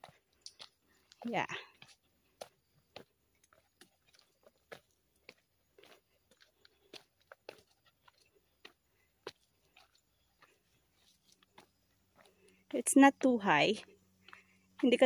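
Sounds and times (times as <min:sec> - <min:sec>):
footsteps crunching on dirt: 0:00.0 - 0:15.0.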